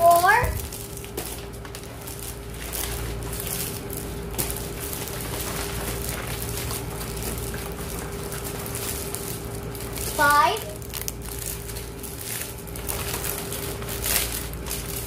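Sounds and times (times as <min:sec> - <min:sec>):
plastic bag rustling: 0:00.0 - 0:15.0
steady hum: 0:00.0 - 0:15.0.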